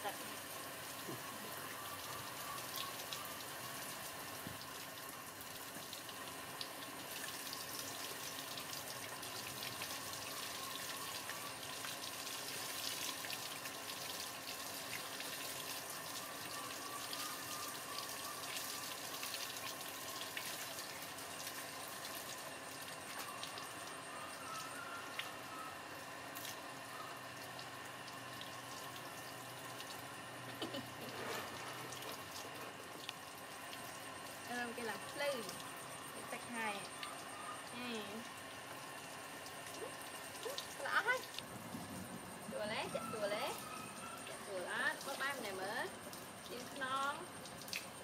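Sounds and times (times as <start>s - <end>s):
water splashing and dripping: 0.3s - 41.6s, 42.7s - 48.0s.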